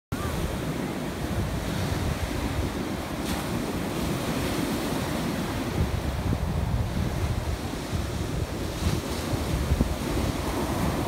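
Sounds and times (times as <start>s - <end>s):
ocean surf breaking: 0.2s - 11.0s
wind buffeting microphone: 0.2s - 11.0s.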